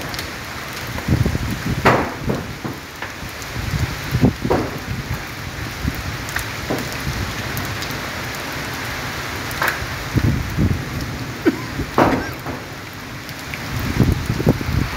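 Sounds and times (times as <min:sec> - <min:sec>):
storm rain and wind hiss: 0:00.0 - 0:14.9.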